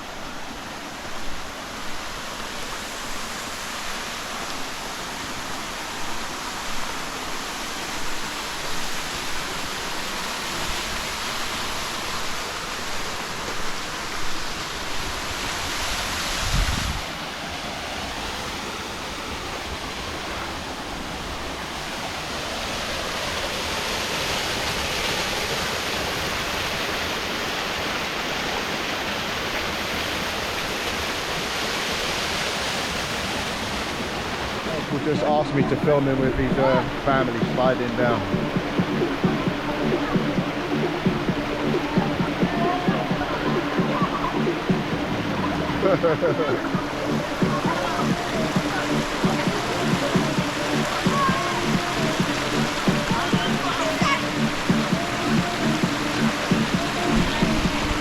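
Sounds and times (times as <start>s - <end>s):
waterfall running: 0.0s - 58.0s.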